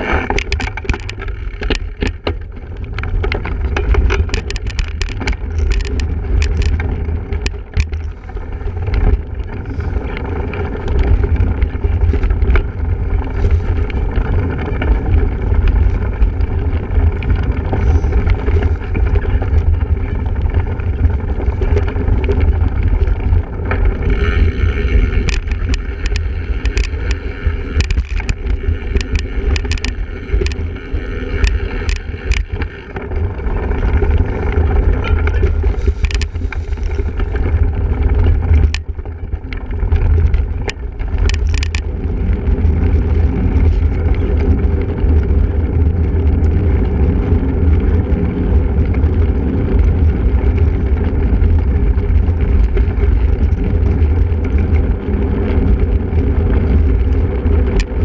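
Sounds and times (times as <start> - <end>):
bike rattling over rough ground: 0.0 - 58.0
heavy low rumble: 0.0 - 58.0
wind buffeting microphone: 0.0 - 58.0.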